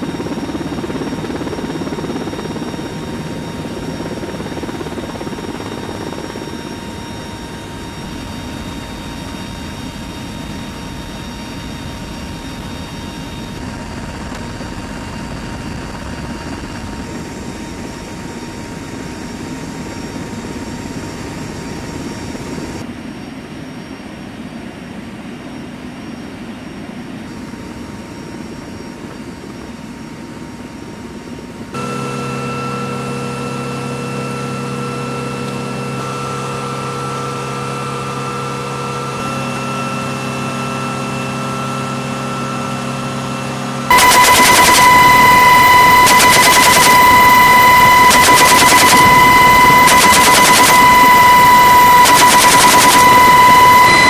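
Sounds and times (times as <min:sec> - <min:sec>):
helicopter rotor noise: 0:00.0 - 0:24.1, 0:25.5 - 0:54.0
aircraft engine and wind rush: 0:00.0 - 0:54.0
faint steady whine: 0:00.0 - 0:54.0.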